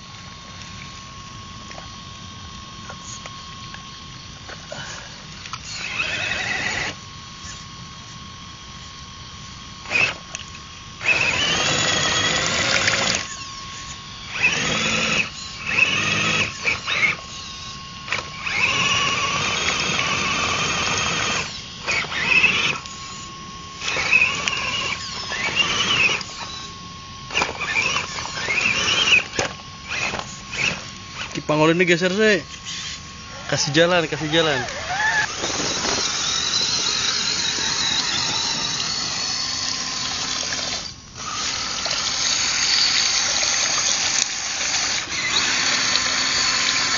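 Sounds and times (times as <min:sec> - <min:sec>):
electric motor whining: 0:00.0 - 0:46.9.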